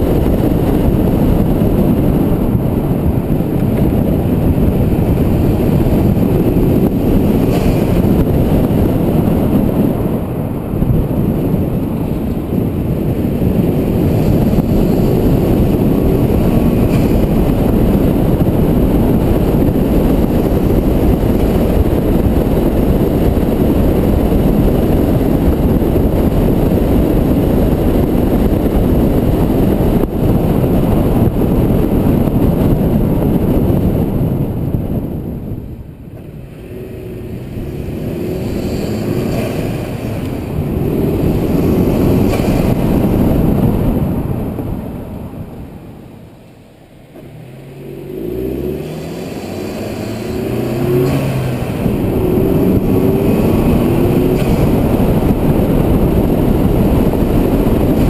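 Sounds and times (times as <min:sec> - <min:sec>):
car engine tyres and wind: 0:00.0 - 0:58.0.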